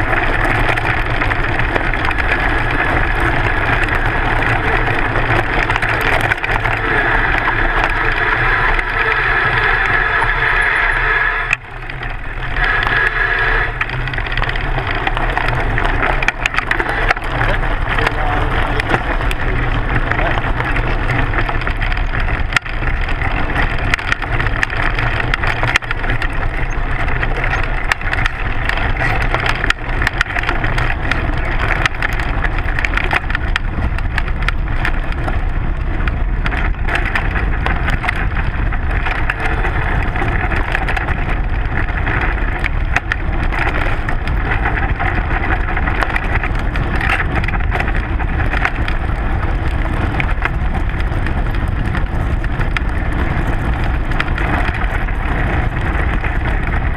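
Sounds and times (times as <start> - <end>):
bike tyre and wind rumble: 0.0 - 56.9
stones and bike parts rattling: 0.0 - 56.9.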